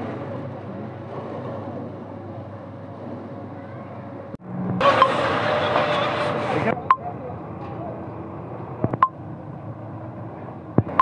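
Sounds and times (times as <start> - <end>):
fire engine pump running: 0.0 - 11.0.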